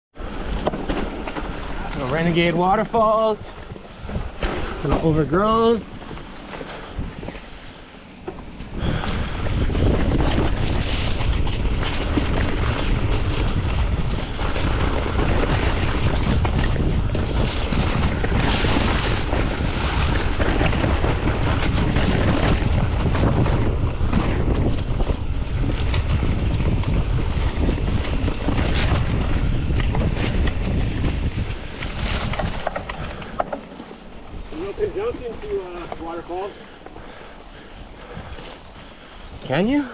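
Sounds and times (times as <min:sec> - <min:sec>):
bike rumbling and rattling: 0:00.1 - 0:39.9
wind buffeting microphone: 0:00.2 - 0:39.9.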